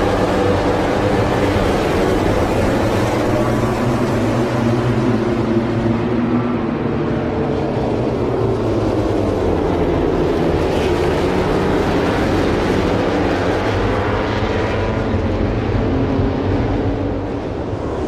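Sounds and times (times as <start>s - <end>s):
vehicle engine running loudly: 0.0s - 18.0s.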